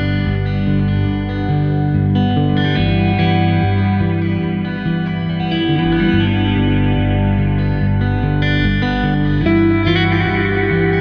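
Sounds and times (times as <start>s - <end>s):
effects-laden guitar music: 0.0s - 11.0s.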